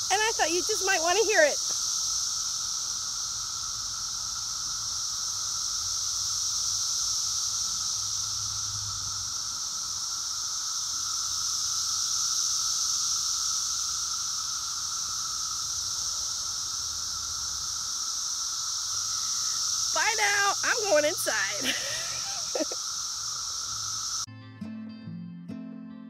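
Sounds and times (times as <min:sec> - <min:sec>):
cicadas droning: 0:00.0 - 0:24.3.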